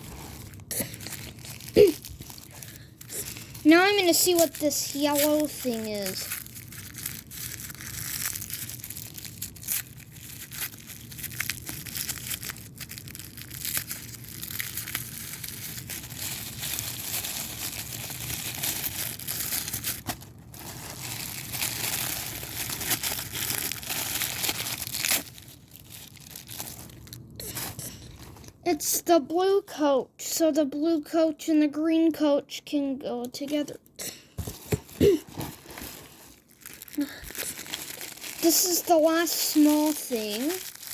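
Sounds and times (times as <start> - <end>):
packaging crinkling and tearing: 0.0 - 28.6, 34.4 - 40.9.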